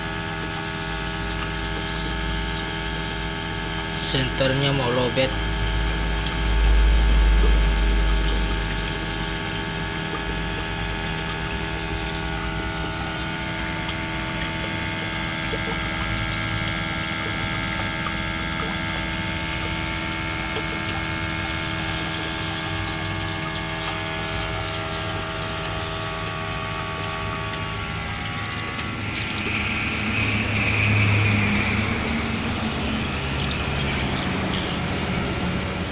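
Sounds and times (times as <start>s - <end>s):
steady machine hum: 0.0s - 35.9s.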